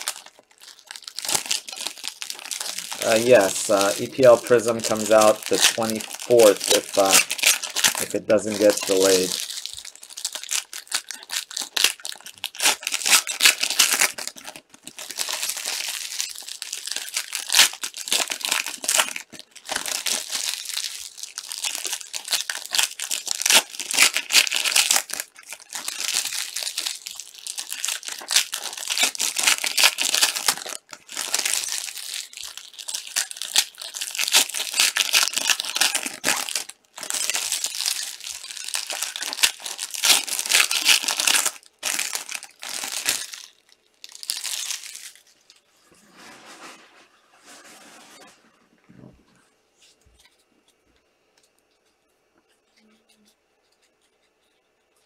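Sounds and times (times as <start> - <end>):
foil wrappers crinkling: 0.0 - 45.7.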